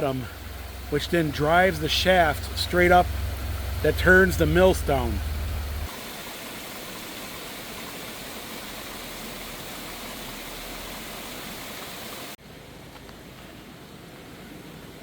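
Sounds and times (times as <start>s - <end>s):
water rushing down sluice: 0.0s - 12.4s
quiet water hiss: 0.0s - 15.0s.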